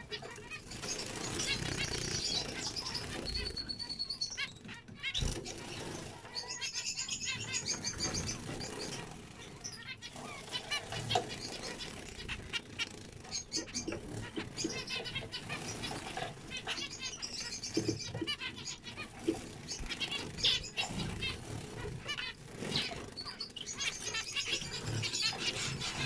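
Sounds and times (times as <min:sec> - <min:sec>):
finches singing and chattering: 0:00.0 - 0:26.0
wing flutters: 0:00.0 - 0:26.0.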